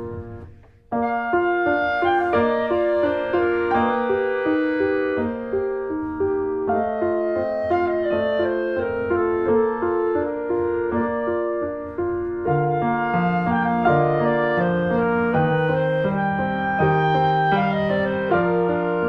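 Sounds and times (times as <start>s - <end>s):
gentle piano and woodwind music: 0.0s - 19.0s.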